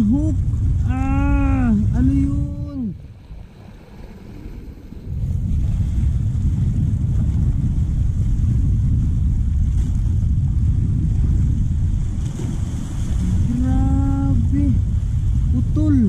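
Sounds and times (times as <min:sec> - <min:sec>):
sea waves washing over rocks: 0:00.0 - 0:16.0
wind buffeting microphone: 0:00.0 - 0:16.0.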